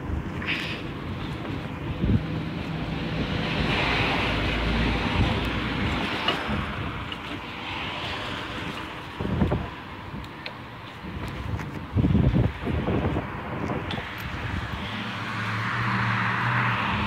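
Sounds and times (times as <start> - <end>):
wind buffeting microphone: 0.0 - 15.4
low road rumble: 0.0 - 17.0.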